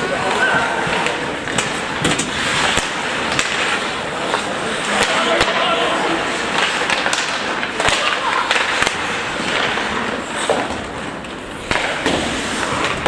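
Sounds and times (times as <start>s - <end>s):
skates scraping on ice: 0.0s - 13.0s
sticks and puck clacking: 0.0s - 13.0s.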